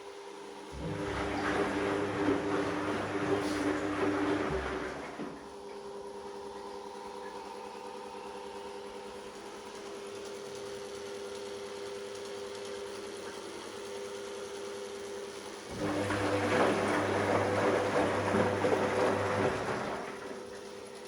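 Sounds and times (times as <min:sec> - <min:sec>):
washing machine motor hum: 0:00.5 - 0:21.0.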